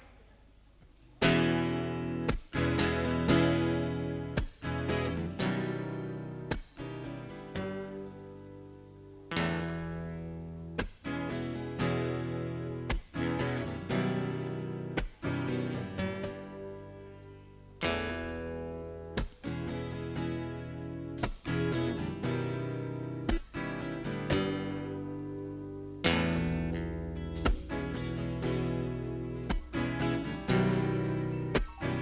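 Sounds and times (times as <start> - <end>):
acoustic guitar strumming chords: 1.2 - 32.0.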